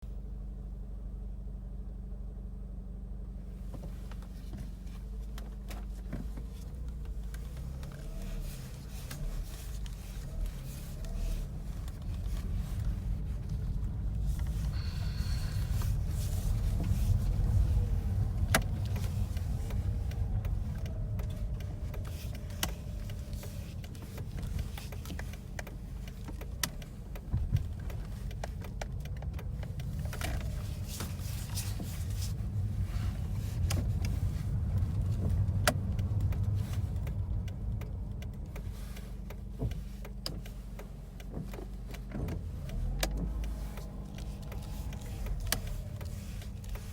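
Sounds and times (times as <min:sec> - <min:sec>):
rotary engine running at low revs: 0:06.8 - 0:46.9.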